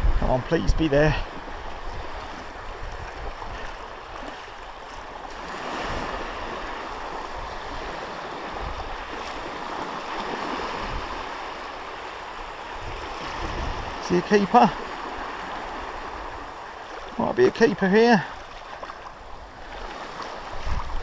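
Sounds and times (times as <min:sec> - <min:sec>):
sea surf washing onto beach: 0:00.0 - 0:21.0.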